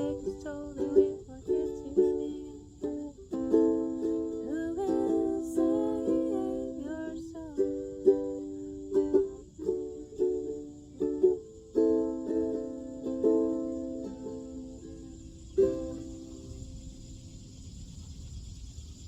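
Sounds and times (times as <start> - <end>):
ukulele strumming chords: 0.0 - 16.5.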